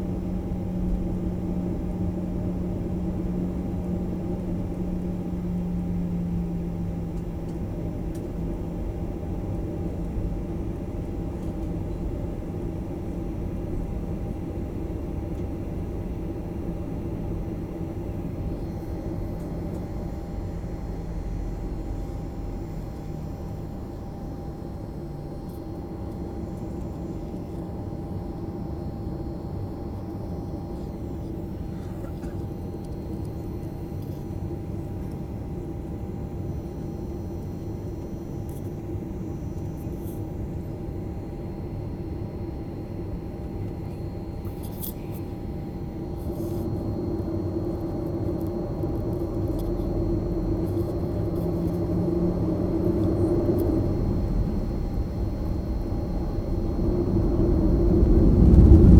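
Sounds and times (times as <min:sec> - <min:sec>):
faint steady hum: 0:00.0 - 0:58.9
jet engine rumble in cabin: 0:00.0 - 0:58.9.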